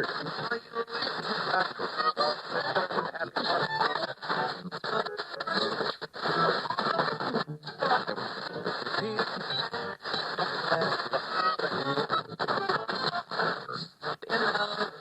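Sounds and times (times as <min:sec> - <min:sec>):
radio static and hiss: 0:00.0 - 0:15.0
radio voices: 0:00.0 - 0:15.0
snatches of broadcast music: 0:00.0 - 0:15.0.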